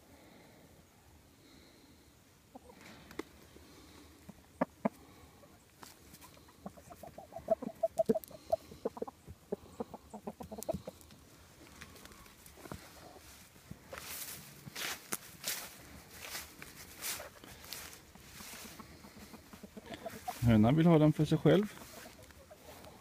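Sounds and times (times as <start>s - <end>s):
chickens clucking: 1.9s - 14.1s, 15.8s - 23.0s.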